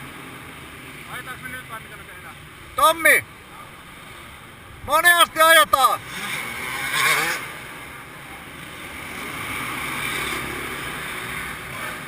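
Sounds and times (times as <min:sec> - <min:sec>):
motocross bike engine drone: 0:00.0 - 0:12.0.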